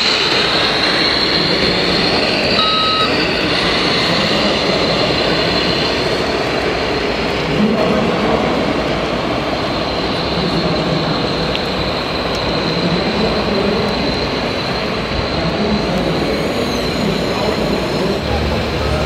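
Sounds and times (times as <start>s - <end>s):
exhibition hall hubbub: 0.0s - 19.0s.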